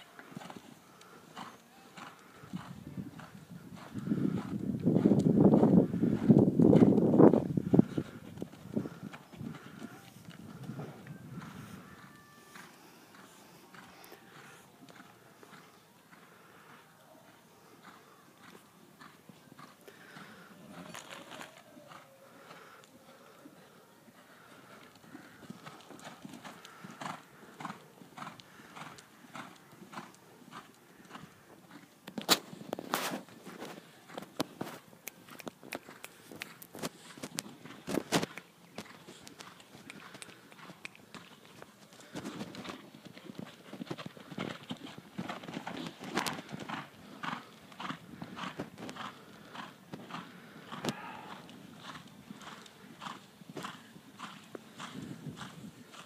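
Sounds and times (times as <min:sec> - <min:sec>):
hoofbeats on sand: 0:00.3 - 0:16.7, 0:24.2 - 0:56.0.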